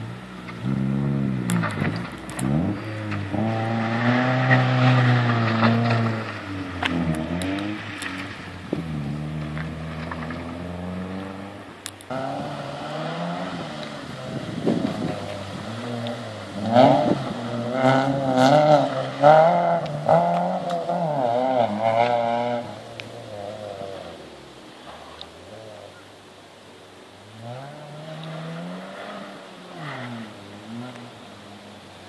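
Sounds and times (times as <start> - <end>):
rally car engine revving: 0.0 - 26.0, 27.2 - 32.0.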